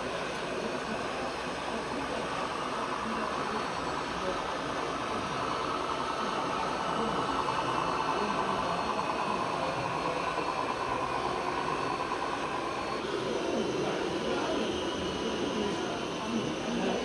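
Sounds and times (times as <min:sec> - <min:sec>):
model vehicle mechanical drone: 0:00.1 - 0:17.0.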